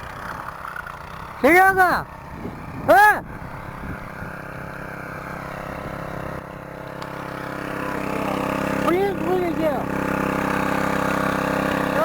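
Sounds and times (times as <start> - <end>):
walk-behind tractor engine running: 0.0 - 12.0.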